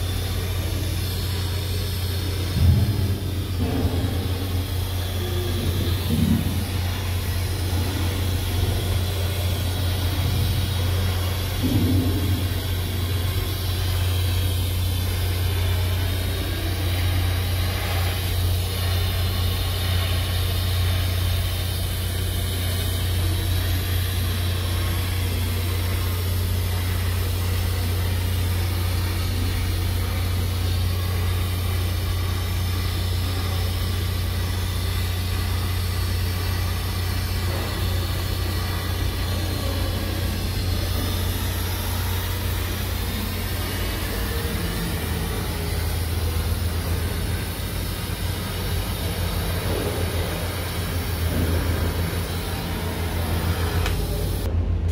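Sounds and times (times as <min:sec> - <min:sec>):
welding arc humming and hissing: 0:00.0 - 0:54.9.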